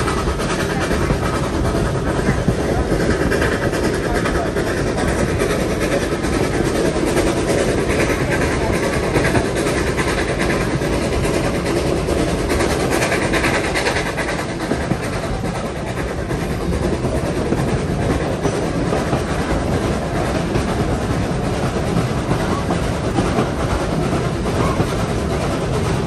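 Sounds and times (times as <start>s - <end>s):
train wheels clattering on rails: 0.0s - 26.0s.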